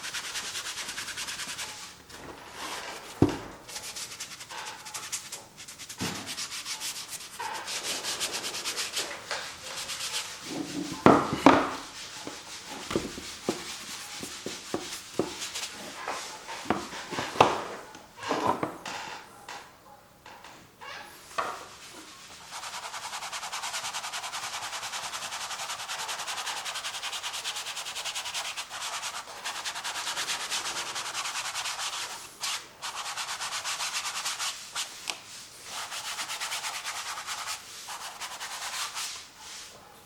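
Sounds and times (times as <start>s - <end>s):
painting tool scratching canvas: 0.0s - 17.8s, 21.6s - 39.6s.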